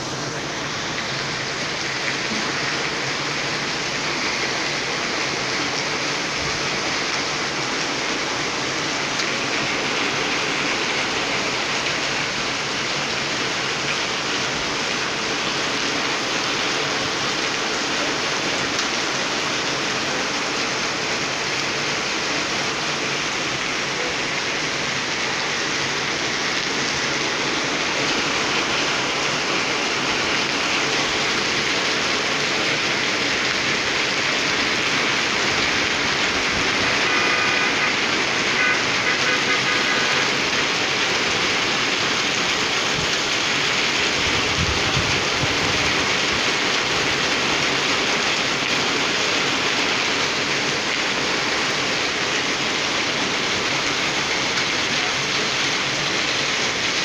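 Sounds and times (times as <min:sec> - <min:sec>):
torrential rain on metal roofs: 0:00.0 - 0:57.0.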